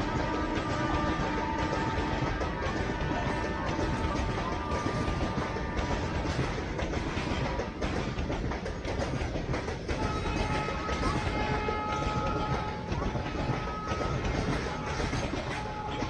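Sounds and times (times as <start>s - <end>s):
clickety-clack over rail joints: 0.0s - 16.0s
freight train wheels rumbling: 0.0s - 16.0s.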